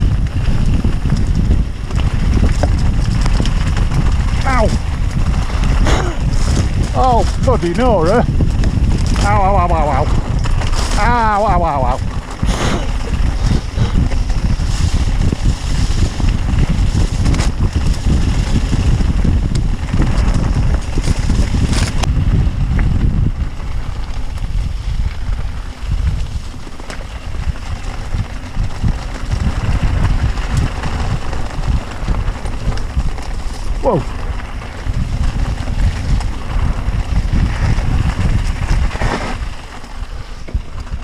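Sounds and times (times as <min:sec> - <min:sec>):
bike knocking and rattling: 0:00.0 - 0:41.0
low rumble: 0:00.0 - 0:41.0
wind buffeting microphone: 0:00.0 - 0:41.0.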